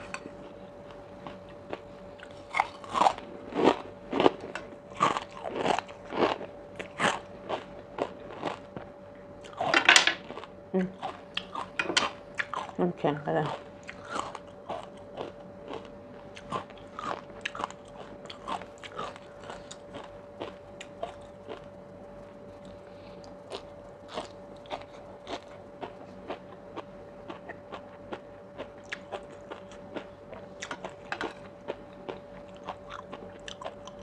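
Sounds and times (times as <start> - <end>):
faint steady hum: 0.0 - 34.0
chewing with popping crunches: 0.1 - 12.8, 13.4 - 21.8, 22.6 - 34.0.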